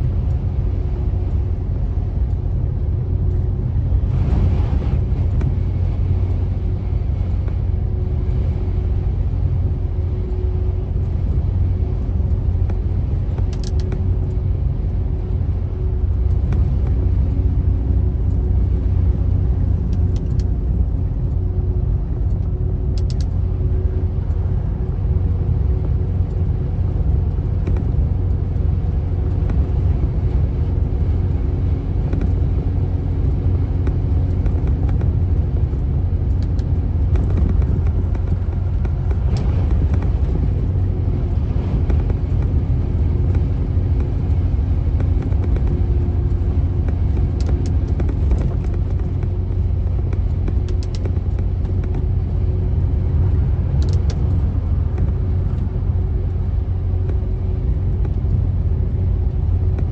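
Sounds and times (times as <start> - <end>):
vehicle driving on highway: 0.0 - 59.9.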